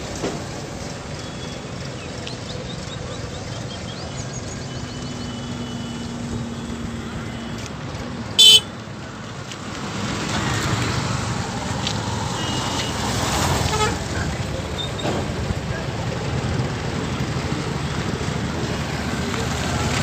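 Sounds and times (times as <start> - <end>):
steady traffic rumble: 0.0 - 20.0.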